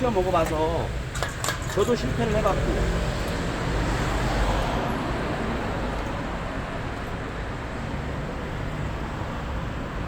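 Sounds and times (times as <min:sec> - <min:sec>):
road traffic rumble and hiss: 0:00.0 - 0:10.0.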